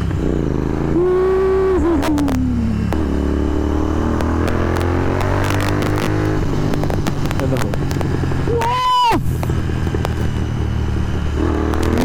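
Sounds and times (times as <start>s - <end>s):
exhaust pops and crackles: 0.0s - 12.0s
motorcycle engine revving: 0.0s - 12.0s.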